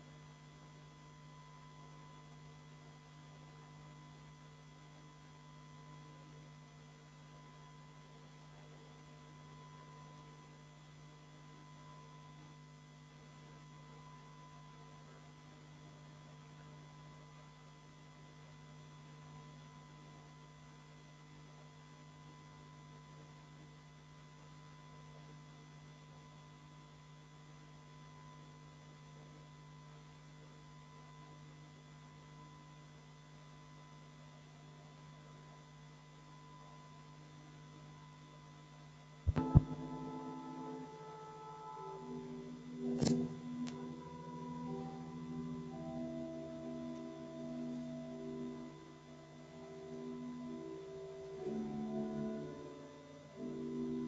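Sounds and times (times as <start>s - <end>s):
faint electrical hum: 0.0s - 54.0s.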